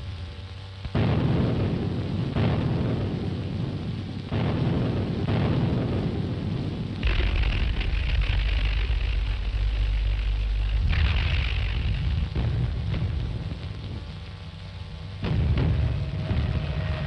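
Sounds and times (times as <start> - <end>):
low rumble: 0.0 - 17.0
artillery booms: 0.9 - 14.2, 15.2 - 17.0.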